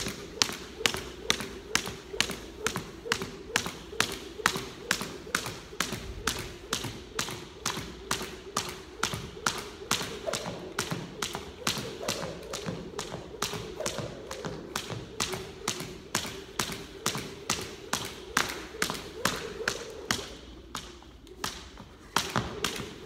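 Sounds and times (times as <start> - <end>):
jump rope slapping wooden floor: 0.0 - 23.0.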